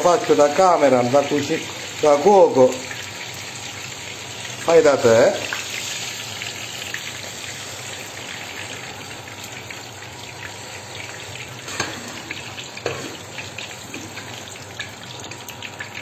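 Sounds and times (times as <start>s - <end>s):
deep-frying sizzle with crackling: 0.0s - 16.0s.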